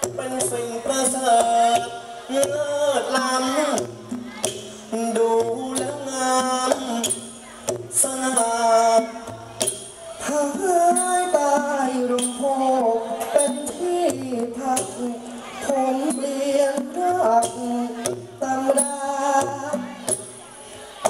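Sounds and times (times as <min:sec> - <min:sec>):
music: 0:00.0 - 0:21.0
person singing through a microphone: 0:00.0 - 0:21.0.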